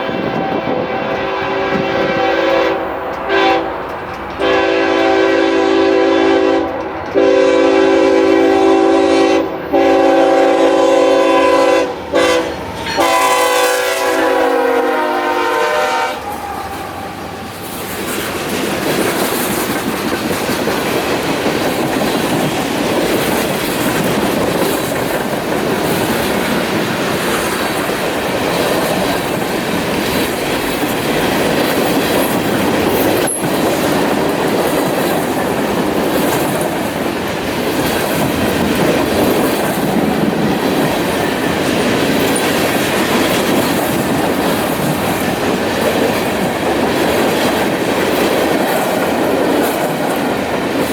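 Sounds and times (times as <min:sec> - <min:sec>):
train wheels clickety-clack: 0:00.0 - 0:15.6, 0:16.2 - 0:50.9.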